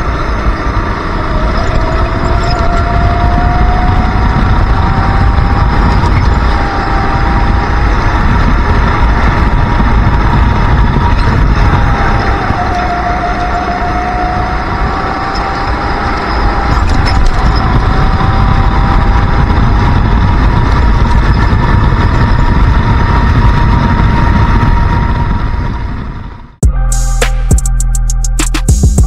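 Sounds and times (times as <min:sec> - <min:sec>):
kart engine at high revs: 0:00.0 - 0:26.2.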